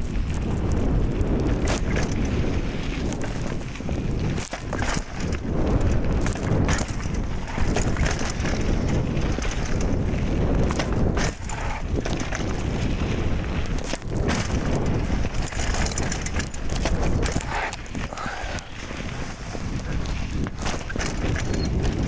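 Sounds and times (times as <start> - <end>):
bike clattering over bumps: 0.0 - 22.0
bike tyres on dirt: 0.0 - 22.0
wind on microphone: 0.0 - 22.0.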